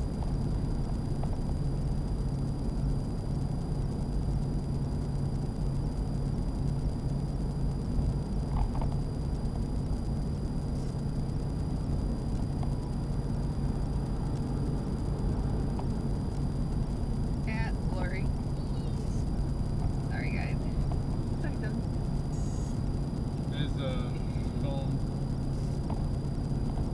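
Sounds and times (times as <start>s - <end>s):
low hum: 0.0s - 26.9s
pickup truck engine and road drone: 0.0s - 26.9s.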